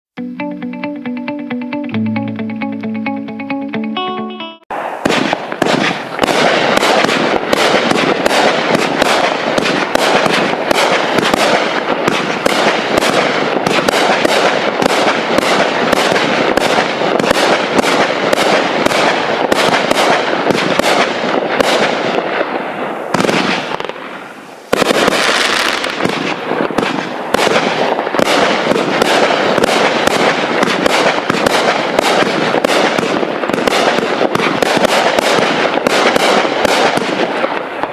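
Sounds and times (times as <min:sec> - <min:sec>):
firework cake shots and bursts: 0:04.7 - 0:37.9.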